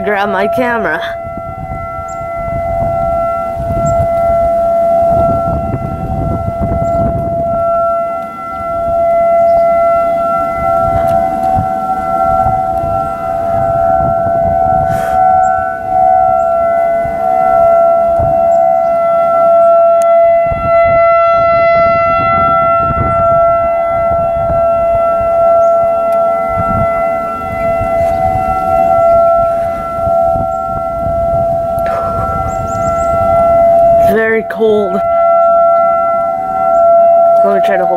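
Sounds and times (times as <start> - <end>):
tornado sirens steady tone: 0.0 - 37.9.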